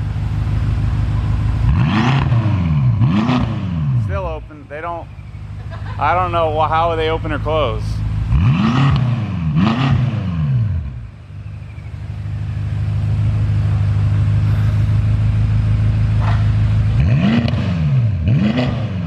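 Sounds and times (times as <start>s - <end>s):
car engine idling: 0.0s - 18.2s
car engine revving: 0.0s - 19.0s.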